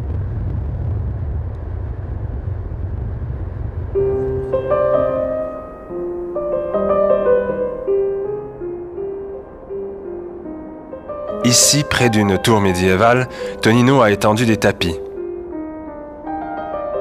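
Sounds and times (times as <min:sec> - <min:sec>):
low rumble: 0:00.0 - 0:14.0
slow piano melody: 0:03.2 - 0:17.0.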